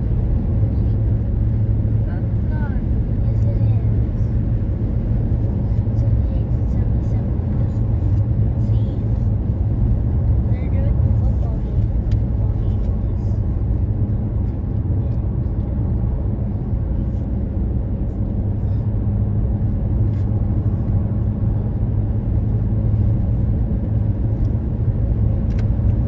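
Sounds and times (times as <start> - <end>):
car cruising tyre and wind noise: 0.0 - 26.0.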